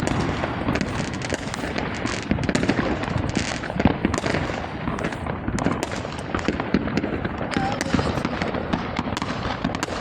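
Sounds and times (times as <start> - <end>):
fireworks and firecrackers banging: 0.0 - 10.0.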